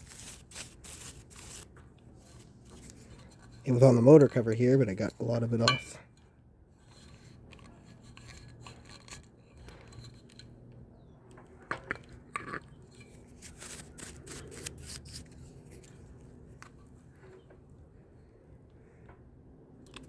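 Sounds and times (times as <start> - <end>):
clicks and knocks handling fan parts: 1.6 - 17.8.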